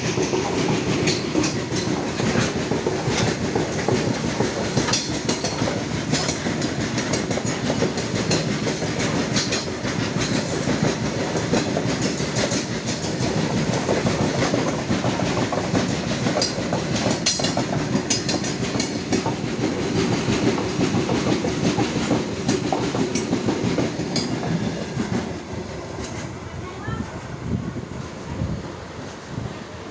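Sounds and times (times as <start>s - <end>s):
wheels clattering on rails: 0.0s - 25.4s
train wagons rumbling past: 0.0s - 29.9s.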